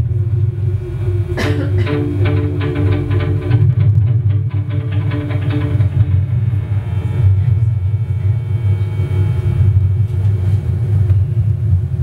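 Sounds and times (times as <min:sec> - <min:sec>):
faint sustained tones: 0:00.0 - 0:12.0
loud wavering low rumble: 0:00.0 - 0:12.0.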